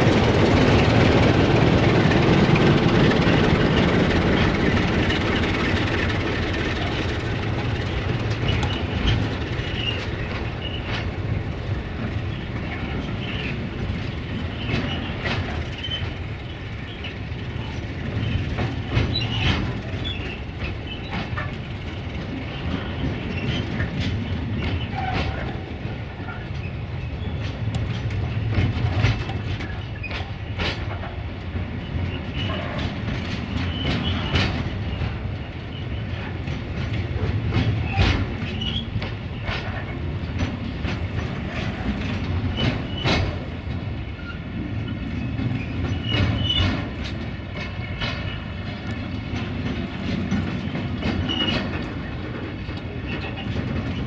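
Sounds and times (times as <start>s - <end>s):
freight train rumbling past: 0.0s - 54.0s
wheels clicking over rail joints: 0.0s - 54.0s.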